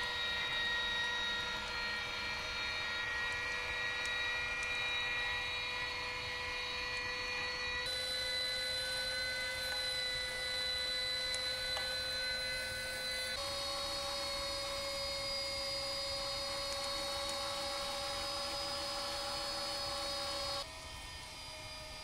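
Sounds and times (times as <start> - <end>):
electric meat grinder whining: 0.0 - 22.0.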